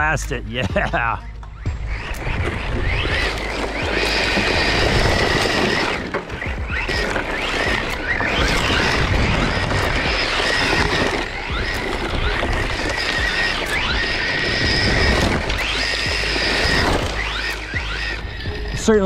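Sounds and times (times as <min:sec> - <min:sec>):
background music: 0:00.0 - 0:19.0
tyres scrabbling on loose dirt: 0:00.9 - 0:19.0
rc car electric motor whining: 0:01.4 - 0:19.0.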